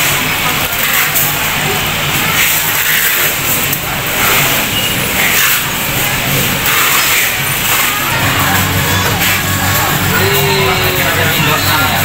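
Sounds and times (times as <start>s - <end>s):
steady noisy hiss: 0.0s - 12.0s
indistinct voices: 0.2s - 12.0s.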